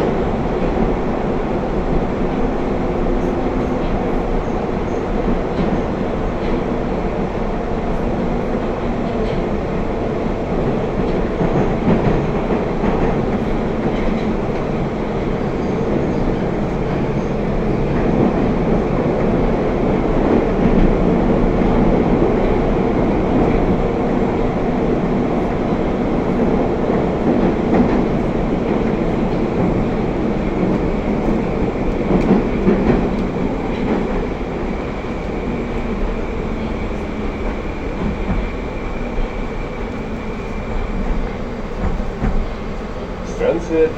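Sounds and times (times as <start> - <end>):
train running rumble and motor hum: 0.0 - 43.9.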